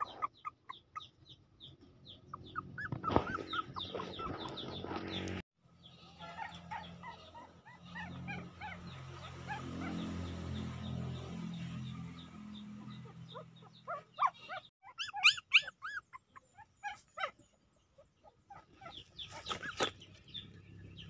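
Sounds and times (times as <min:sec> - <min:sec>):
small animals chirping and squeaking: 0:00.0 - 0:21.0.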